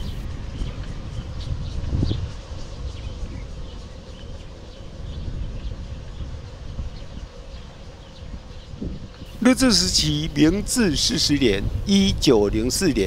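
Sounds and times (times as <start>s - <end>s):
bicycle road rumble: 0.0s - 13.0s
wind on microphone: 0.0s - 13.0s.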